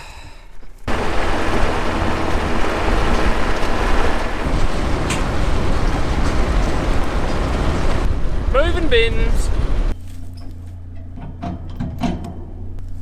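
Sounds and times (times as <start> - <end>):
farm vehicle engine: 0.9 - 13.0.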